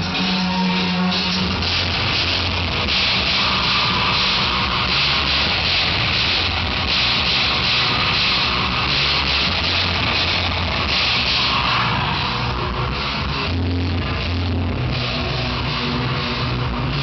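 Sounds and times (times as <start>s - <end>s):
harsh distorted noise: 0.0s - 17.0s
loud live band music: 0.0s - 17.0s.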